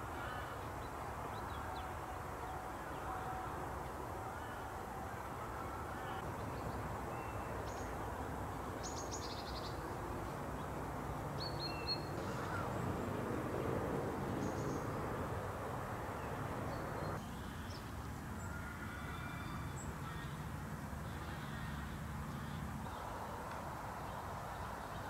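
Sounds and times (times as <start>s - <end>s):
low background rush: 0.0s - 25.0s.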